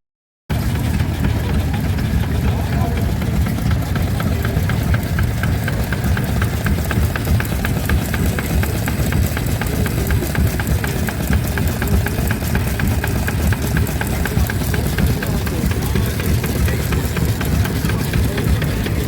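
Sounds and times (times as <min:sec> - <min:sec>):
stationary engine rumbling: 0:00.5 - 0:19.0.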